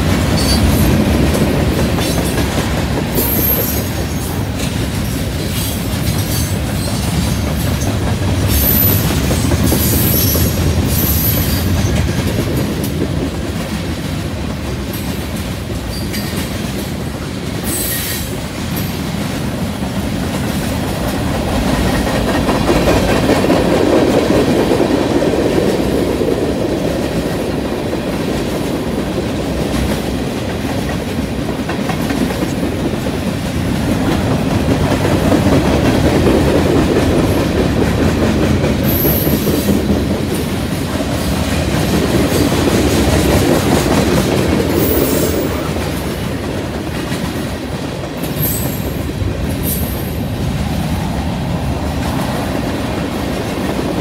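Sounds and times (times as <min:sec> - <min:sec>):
train wheels clickety-clack: 0:00.0 - 0:54.0.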